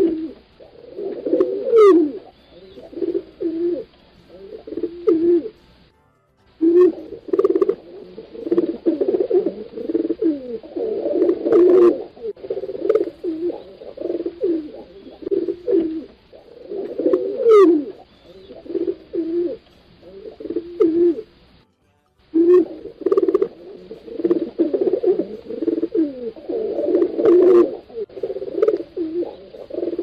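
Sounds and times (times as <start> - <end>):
pigeons cooing: 0.0 - 5.6, 6.6 - 21.4, 22.4 - 30.0.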